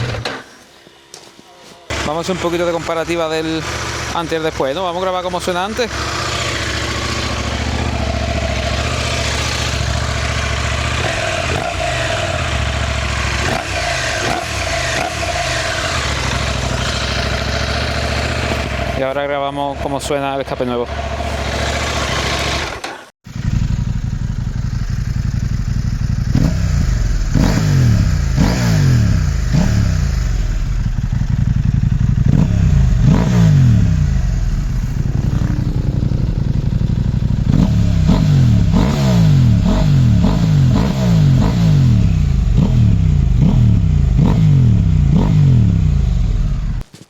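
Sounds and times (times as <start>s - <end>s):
motorcycle engine revving: 1.9s - 46.8s.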